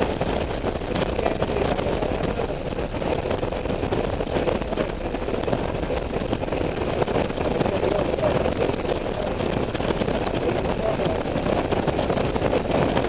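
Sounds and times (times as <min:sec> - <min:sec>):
motorcycle engine drone: 0:00.0 - 0:13.0
wind rush: 0:00.0 - 0:13.0.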